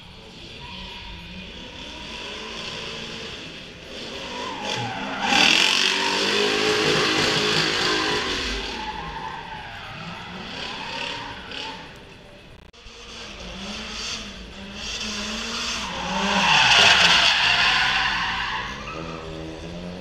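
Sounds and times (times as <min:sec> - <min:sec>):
car engine at high revs: 0:00.0 - 0:20.0
tyres squealing in a skid: 0:00.2 - 0:12.3, 0:12.9 - 0:20.0.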